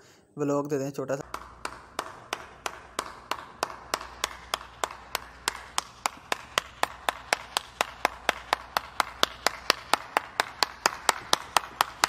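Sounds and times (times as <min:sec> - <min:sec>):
person clapping: 0:01.2 - 0:12.0.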